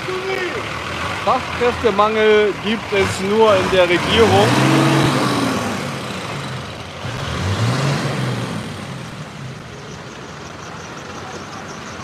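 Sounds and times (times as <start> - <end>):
truck engine passing: 0.0 - 12.0
tyre and road noise: 0.0 - 12.0.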